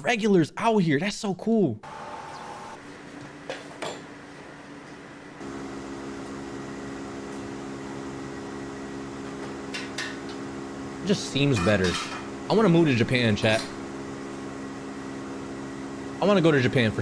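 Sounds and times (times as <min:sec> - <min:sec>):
kitchen equipment humming: 0:01.5 - 0:17.0.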